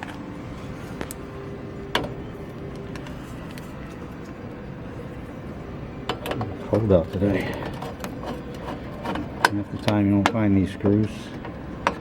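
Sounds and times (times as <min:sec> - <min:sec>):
faint hum: 0:00.0 - 0:12.0
low background rumble: 0:00.0 - 0:12.0.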